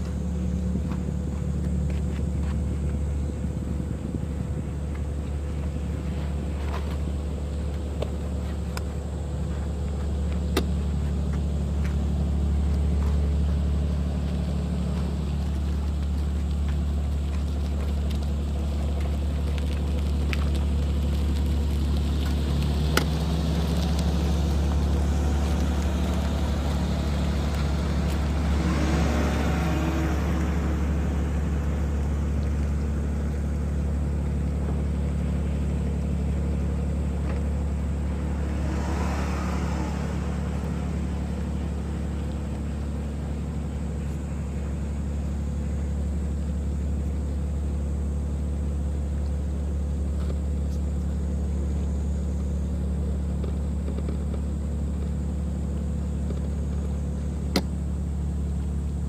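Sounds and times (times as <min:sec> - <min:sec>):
boat diesel engine humming: 0:00.0 - 0:59.0.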